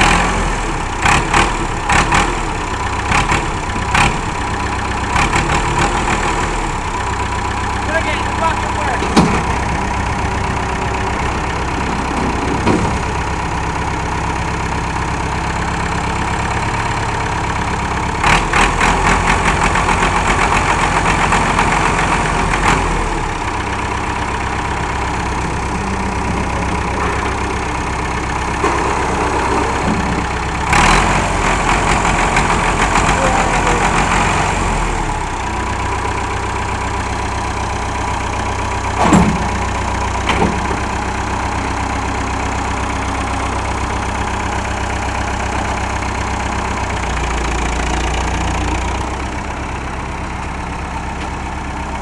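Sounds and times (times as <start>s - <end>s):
tractor engine idling: 0.0s - 52.0s.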